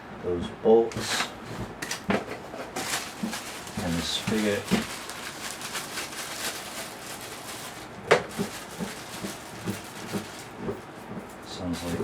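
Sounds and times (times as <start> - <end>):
scratchy rustling and scraping: 1.0 - 12.0.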